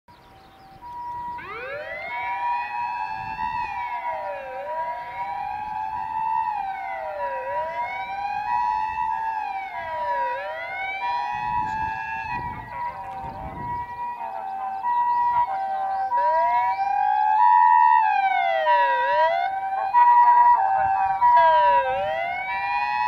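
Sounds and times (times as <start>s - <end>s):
steady high siren tones: 0.3s - 23.0s
wailing siren: 0.3s - 23.0s.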